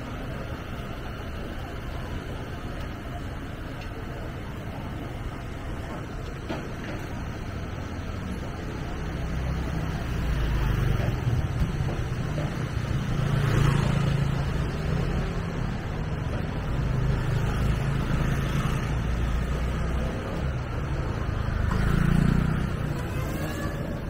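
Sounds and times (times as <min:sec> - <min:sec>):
street noise: 0:00.0 - 0:24.0
vehicle engine rumble: 0:00.0 - 0:24.0.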